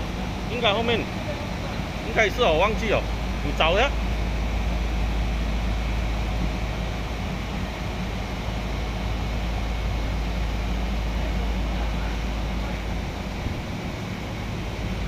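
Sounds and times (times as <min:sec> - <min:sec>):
air conditioning units humming: 0:00.0 - 0:15.0.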